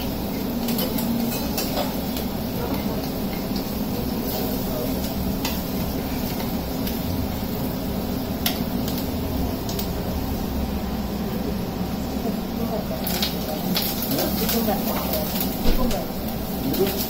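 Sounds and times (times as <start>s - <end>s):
food frying in a pan: 0.0s - 17.0s.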